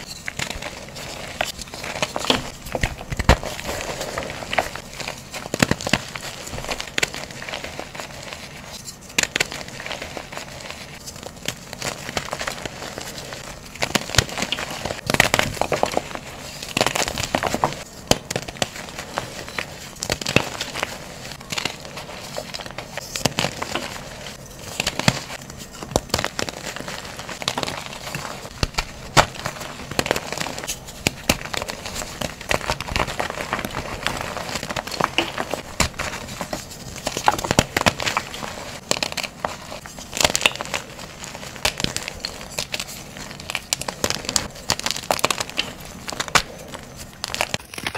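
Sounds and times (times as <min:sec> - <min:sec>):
chalk crunching and crumbling: 0:00.0 - 0:47.9.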